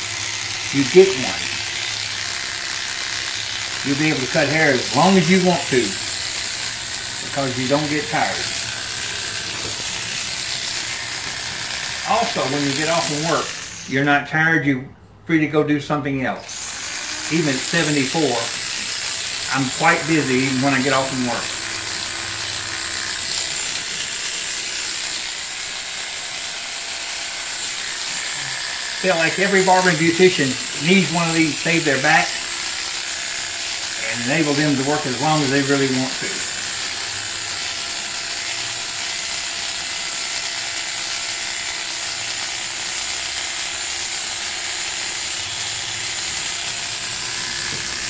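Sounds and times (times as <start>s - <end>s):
electric hair clippers: 0.0s - 14.1s, 16.4s - 48.0s.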